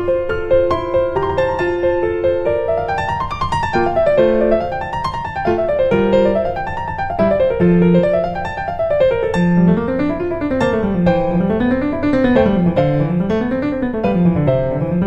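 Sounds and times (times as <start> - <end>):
piano arpeggios: 0.0 - 15.0.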